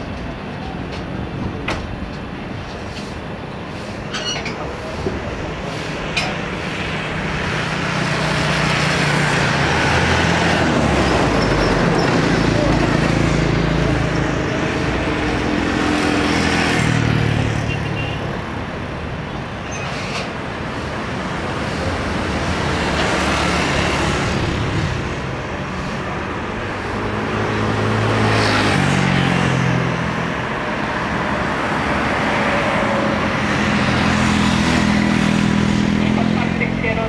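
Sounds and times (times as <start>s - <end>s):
engine roar: 4.5s - 37.0s.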